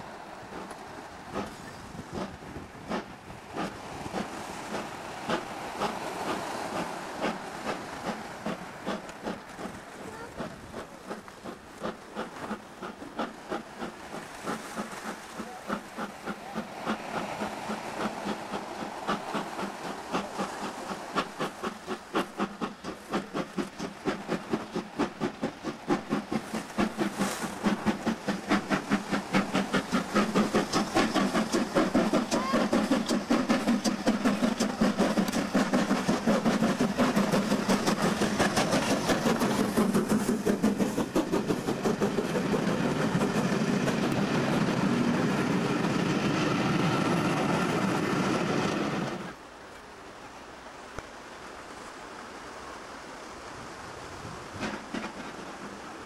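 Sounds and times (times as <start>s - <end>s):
steam locomotive exhaust beats: 0.0s - 49.4s.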